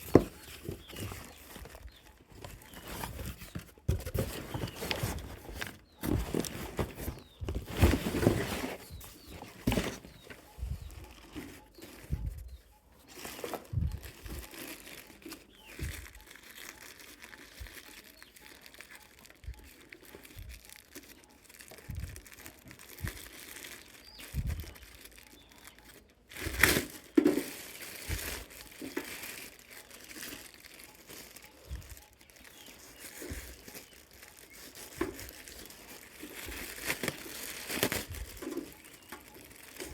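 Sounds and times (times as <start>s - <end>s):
packaging crinkling and rustling: 0.0s - 39.9s.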